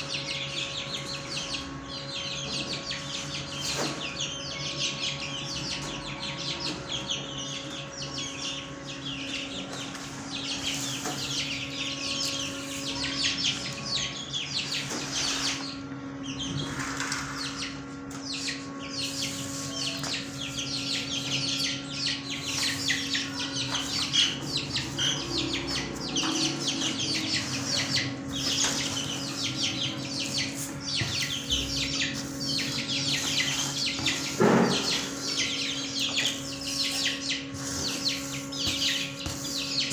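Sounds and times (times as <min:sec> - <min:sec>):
caged birds chirping: 0:00.0 - 0:39.9
steady low hum: 0:00.0 - 0:39.9.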